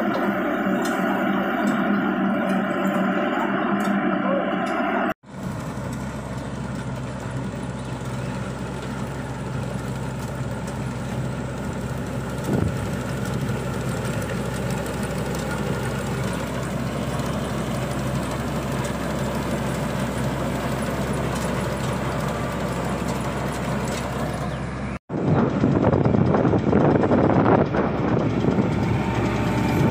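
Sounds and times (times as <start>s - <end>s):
combine harvester diesel engine: 0.0s - 29.9s.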